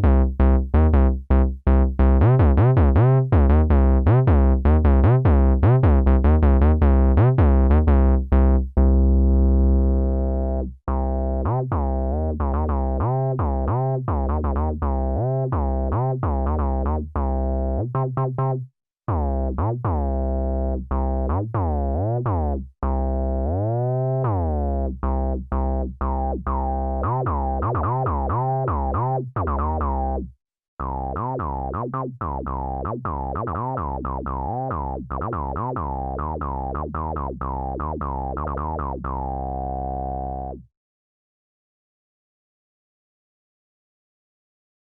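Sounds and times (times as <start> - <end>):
synthesizer bass note sequence: 0.0 - 40.7.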